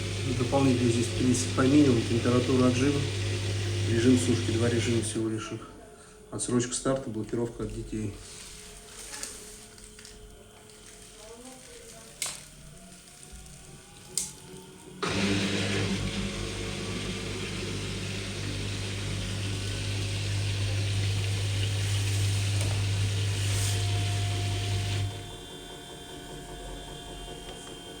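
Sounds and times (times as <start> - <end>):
washer-dryer humming: 0.0 - 5.7, 7.6 - 28.0.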